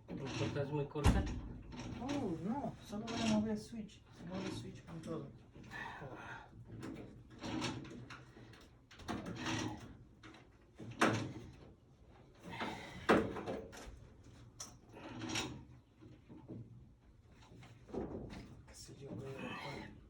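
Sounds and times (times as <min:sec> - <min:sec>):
clunks and scrapes on furnace: 0:00.0 - 0:20.0.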